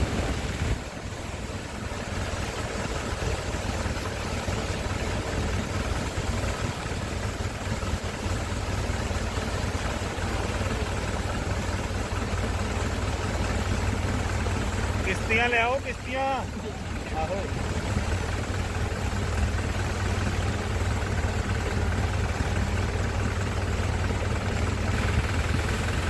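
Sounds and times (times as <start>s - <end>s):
deep constant rumble: 0.0s - 26.0s
heavy rain hiss: 0.0s - 26.0s.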